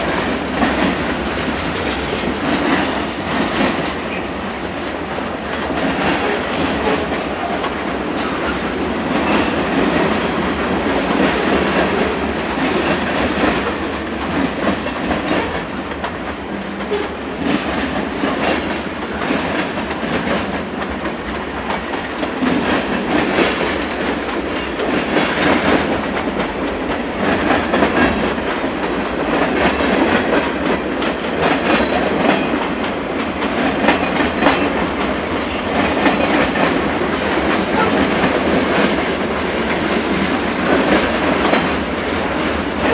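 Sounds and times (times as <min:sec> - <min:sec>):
freight train rolling past: 0:00.0 - 0:42.9
wheels clacking over rail joints: 0:00.0 - 0:42.9.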